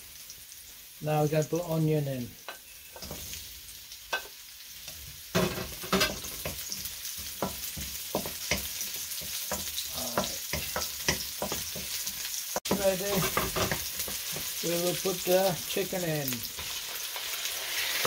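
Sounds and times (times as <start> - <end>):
onion sizzling in hot oil: 0.0 - 18.0
wooden spoon scraping a pan: 2.4 - 3.5, 4.2 - 18.0.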